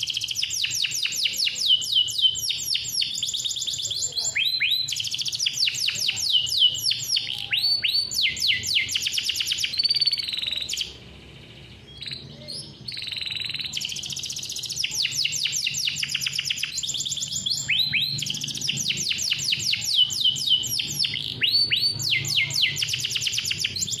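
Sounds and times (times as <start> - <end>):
canary singing trills: 0.0 - 24.0.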